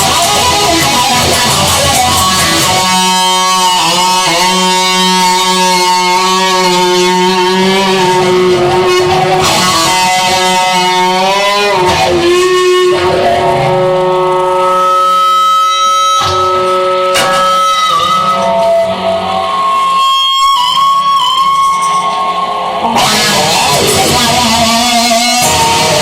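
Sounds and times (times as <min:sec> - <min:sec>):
guitar playing bending notes: 0:00.0 - 0:26.0.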